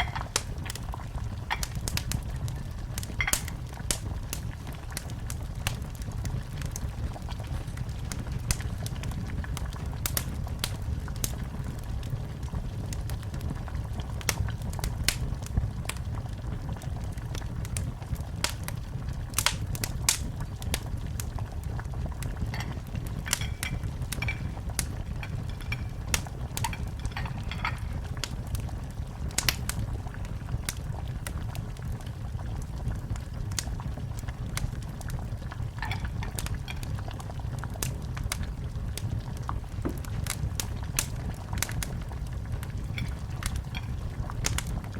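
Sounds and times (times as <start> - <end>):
sharp pops of fire: 0.0 - 11.9, 14.1 - 16.1, 17.1 - 32.0, 32.6 - 44.9
low rumble of burning fire: 0.0 - 44.9
wood fire crackling: 0.0 - 44.9.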